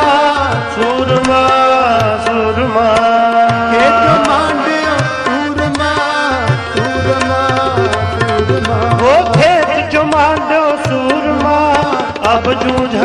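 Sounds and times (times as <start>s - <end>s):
harmonium melody: 0.0s - 13.0s
tabla rhythm: 0.0s - 13.0s.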